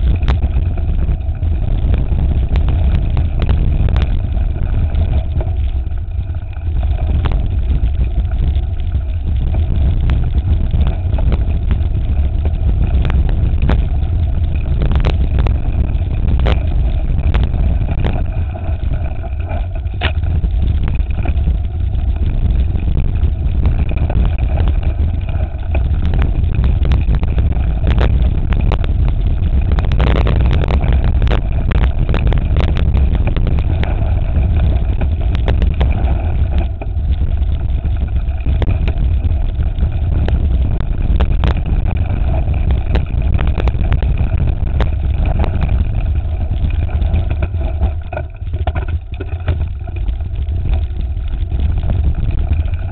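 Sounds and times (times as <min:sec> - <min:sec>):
bike rattling over stones: 0:00.0 - 0:52.9
bike tyre noise: 0:00.0 - 0:52.9
wind rumble on microphone: 0:00.0 - 0:52.9.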